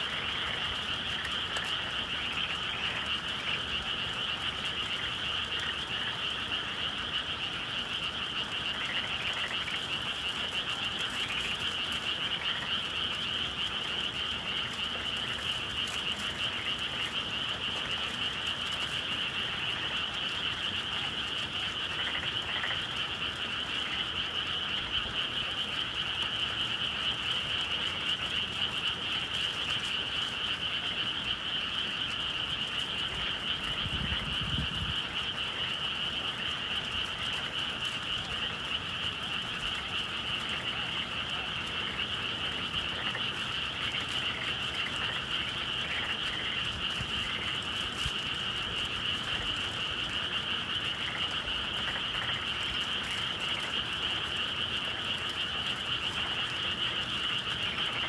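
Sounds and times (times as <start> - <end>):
chorus of frogs trilling: 0.0 - 58.0.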